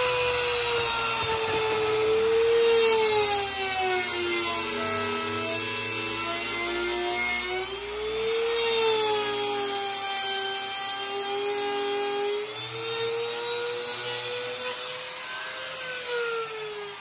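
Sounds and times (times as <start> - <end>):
router cutting wood: 0.0 - 17.0.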